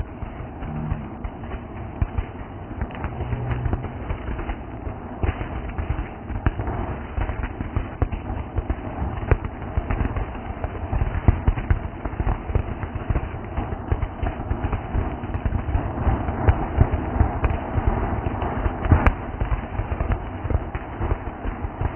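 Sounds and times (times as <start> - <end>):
firework crackling pops: 0.0 - 21.9.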